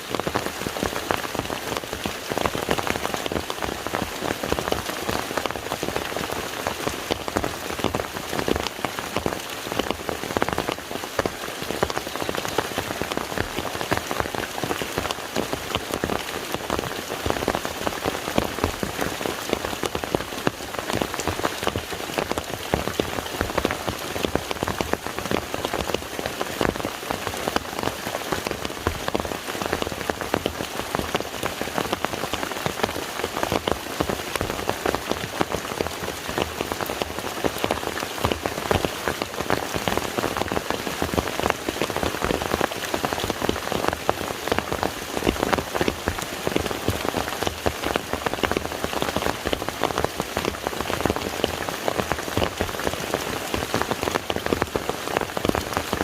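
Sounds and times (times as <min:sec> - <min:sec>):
rain falling on lake: 0:00.0 - 0:56.0.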